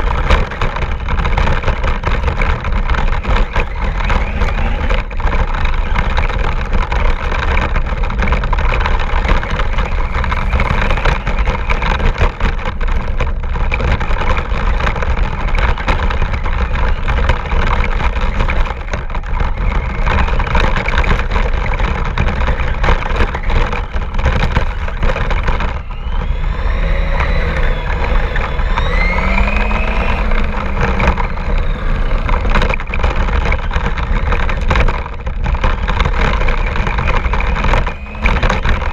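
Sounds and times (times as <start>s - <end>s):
motor whine: 0.0s - 38.9s
rc car chassis rattling: 0.0s - 38.9s.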